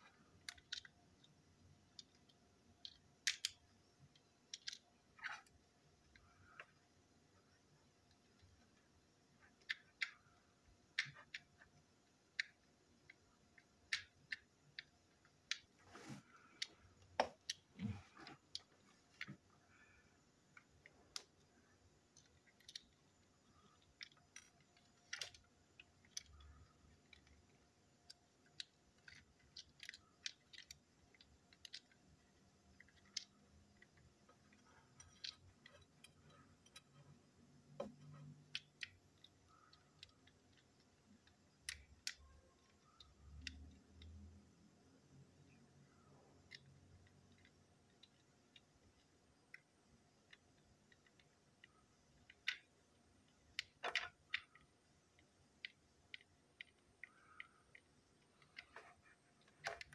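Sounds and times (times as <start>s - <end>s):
plastic toy parts clicking: 0.1s - 6.8s, 7.8s - 15.8s, 16.5s - 19.8s, 20.5s - 44.5s, 45.2s - 59.9s.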